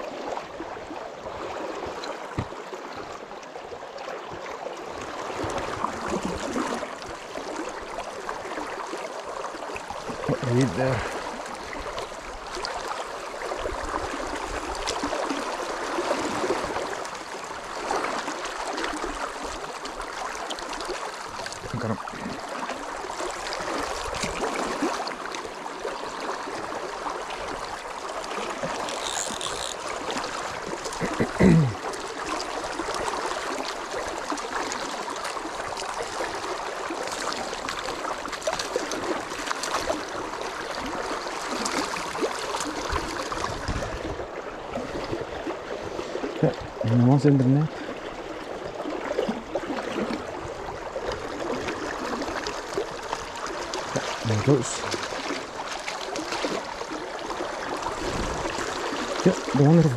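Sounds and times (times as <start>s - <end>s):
river rushing around legs: 0.0s - 59.9s.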